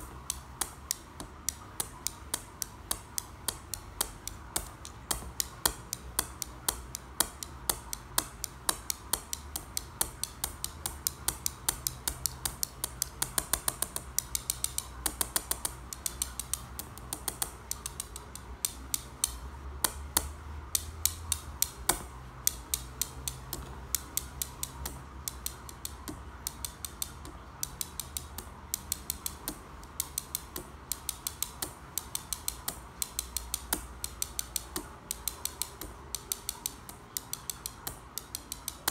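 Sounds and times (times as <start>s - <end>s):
tiles clicking together: 0.0s - 38.9s.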